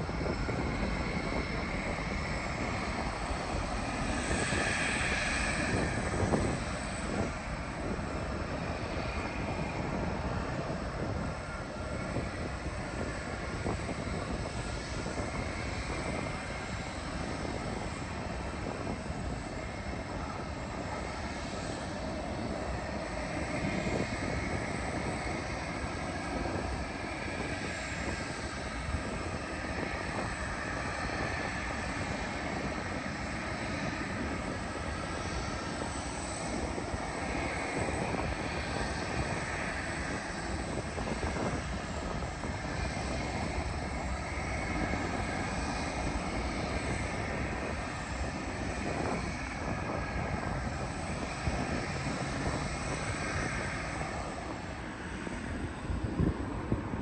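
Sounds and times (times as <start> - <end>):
faint engine whine: 0.0 - 57.0
jet engines rushing: 0.0 - 57.0.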